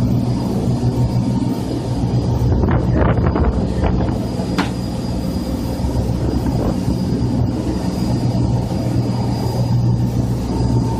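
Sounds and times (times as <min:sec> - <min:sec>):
motorboat engine drone: 0:00.0 - 0:10.9.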